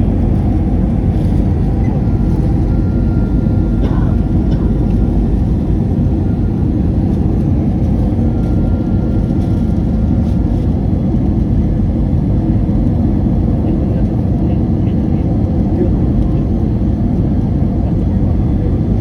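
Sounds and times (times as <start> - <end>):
airliner engine and airflow drone: 0.0 - 19.0.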